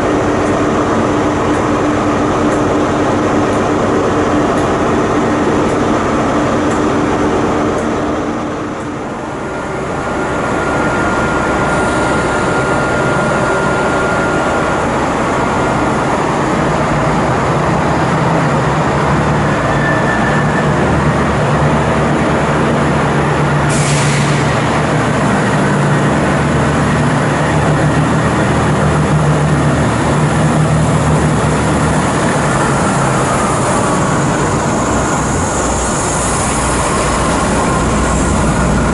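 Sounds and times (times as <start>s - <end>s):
passenger train running: 0.0s - 38.9s.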